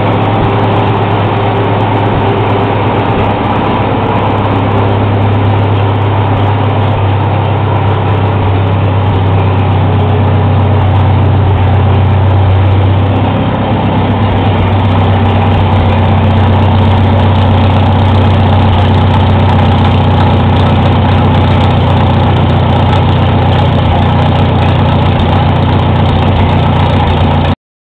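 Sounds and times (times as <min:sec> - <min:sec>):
tractor engine idling: 0:00.0 - 0:27.6.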